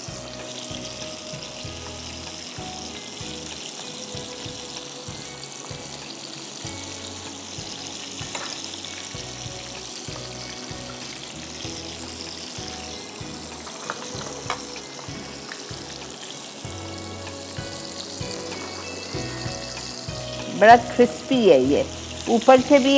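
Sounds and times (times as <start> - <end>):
background music with beat: 0.0 - 22.9
oil sizzling in a frying pan: 0.0 - 22.9.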